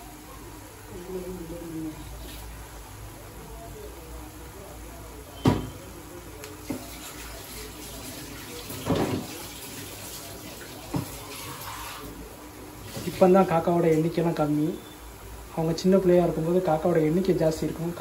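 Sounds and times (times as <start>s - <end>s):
leaves and onions sizzling: 0.0s - 3.1s, 5.3s - 18.0s.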